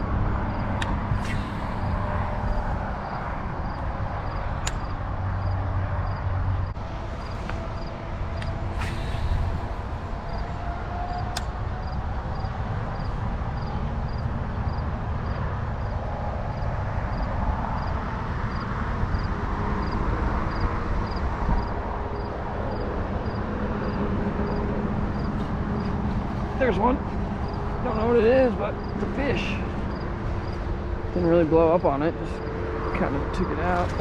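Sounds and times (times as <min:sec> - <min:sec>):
highway traffic rumble: 0:00.0 - 0:34.0.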